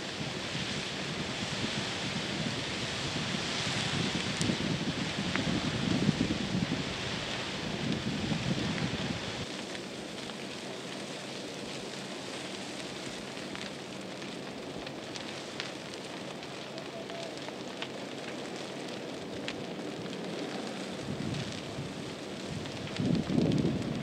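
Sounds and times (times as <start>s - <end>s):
fire crackling and popping: 0.0s - 24.0s
hissing flames: 0.0s - 24.0s.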